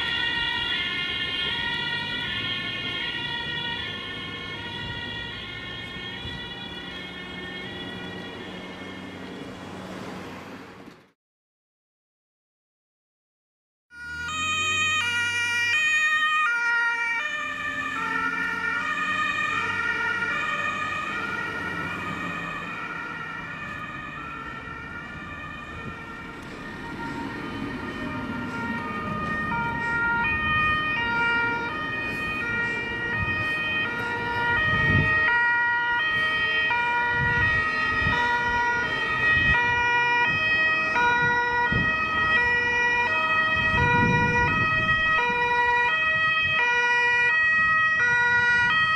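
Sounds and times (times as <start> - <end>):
two-tone emergency sirens: 0.0 - 10.6, 13.9 - 48.9
fire engine engines: 0.0 - 11.2, 13.9 - 48.9.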